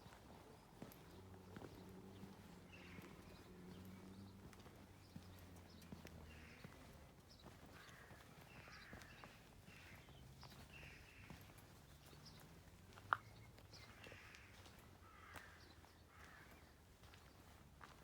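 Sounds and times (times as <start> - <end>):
footsteps rustling on ground: 0.0 - 18.0.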